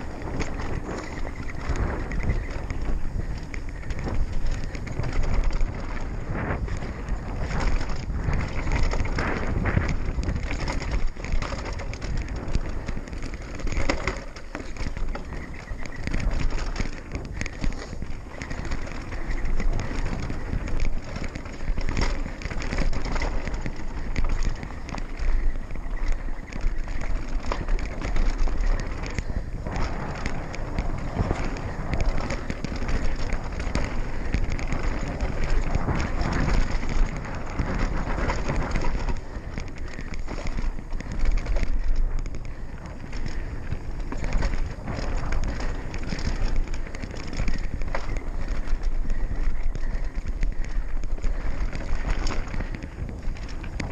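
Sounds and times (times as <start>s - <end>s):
bike and chain clattering: 0.0s - 53.9s
tyres crunching over dirt: 0.0s - 53.9s
wind rumbling on microphone: 0.0s - 53.9s.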